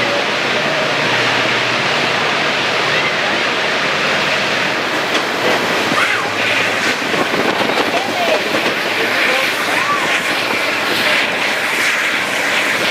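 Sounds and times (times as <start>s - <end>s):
train rushing through tunnel: 0.0s - 12.9s.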